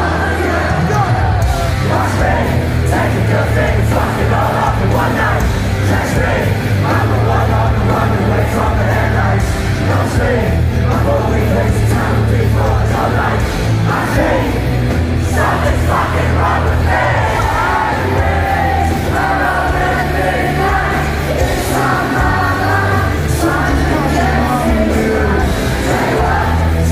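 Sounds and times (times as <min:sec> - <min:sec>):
crowd yelling and singing along: 0:00.0 - 0:26.9
live rock music: 0:00.0 - 0:26.9.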